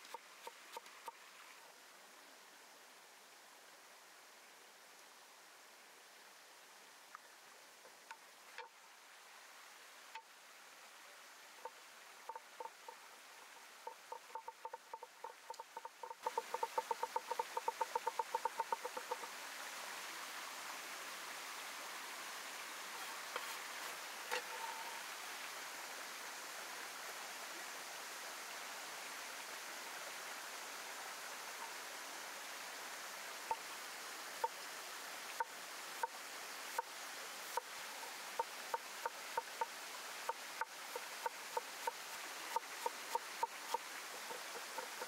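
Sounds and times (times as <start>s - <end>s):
water flowing: 0.0s - 45.0s.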